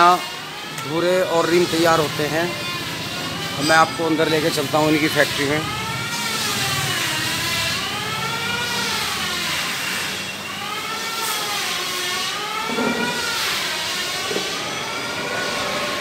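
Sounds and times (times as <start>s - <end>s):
factory machinery whining: 0.0s - 16.0s.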